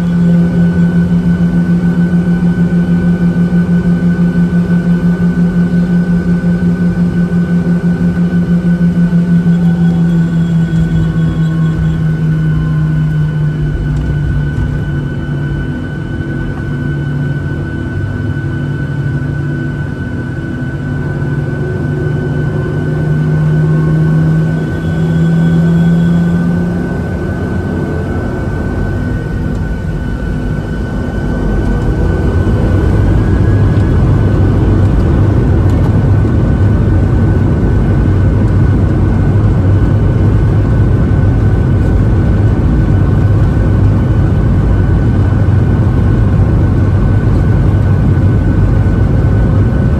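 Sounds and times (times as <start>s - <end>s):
jet engines whining in cabin: 0.0s - 49.9s.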